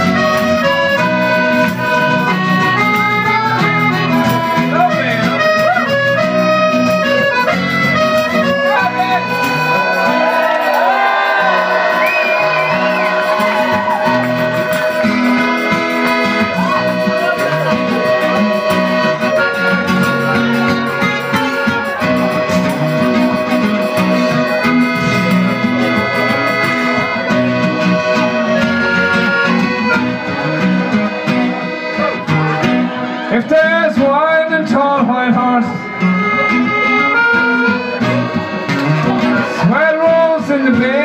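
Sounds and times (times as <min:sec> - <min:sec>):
live band accompaniment: 0:00.0 - 0:41.0
piano accordion melody: 0:00.0 - 0:41.0.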